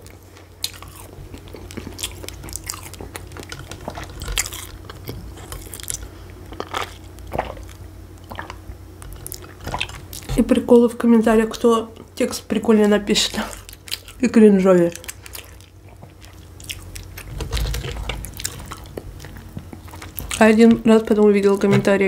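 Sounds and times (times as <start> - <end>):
person chewing food: 0.0 - 10.3, 13.3 - 20.8.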